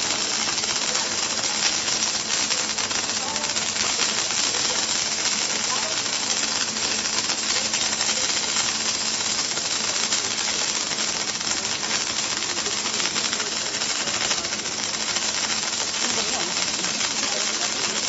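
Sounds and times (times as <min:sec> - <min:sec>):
welding arc crackling hiss: 0:00.0 - 0:18.0.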